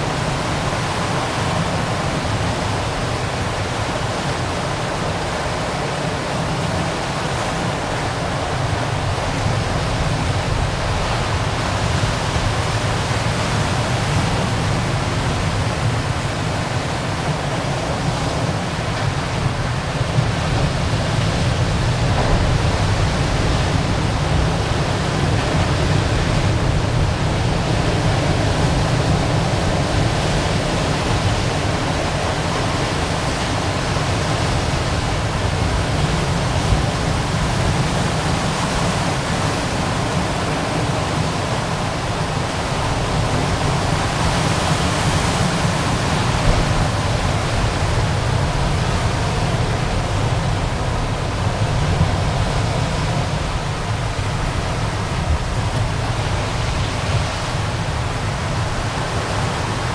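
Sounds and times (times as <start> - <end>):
surf breaking over rocks: 0.0 - 59.9.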